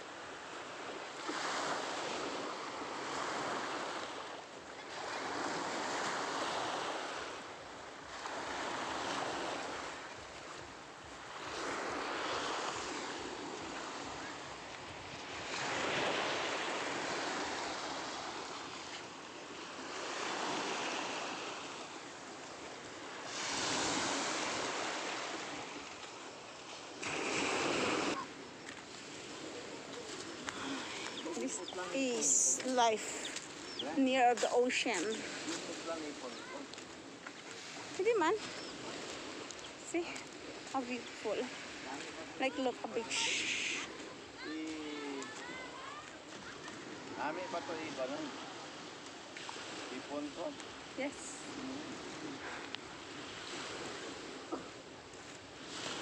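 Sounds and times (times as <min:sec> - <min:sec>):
waves washing up a stony shore: 0:00.0 - 0:56.0.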